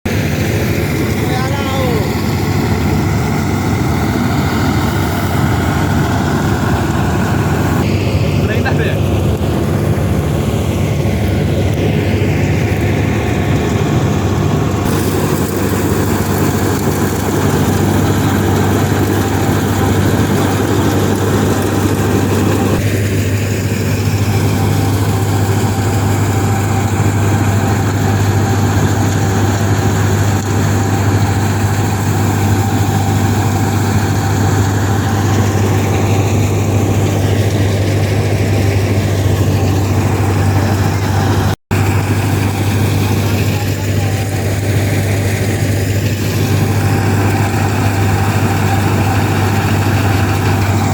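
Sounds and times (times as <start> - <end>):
farm machinery engine humming: 0.0 - 50.9.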